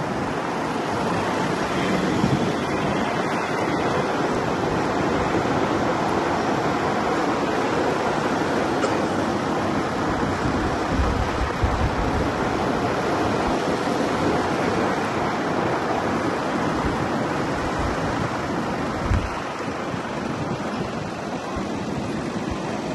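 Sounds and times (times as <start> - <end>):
vehicle road noise: 0.0 - 22.9
wind buffeting microphone: 0.0 - 22.9.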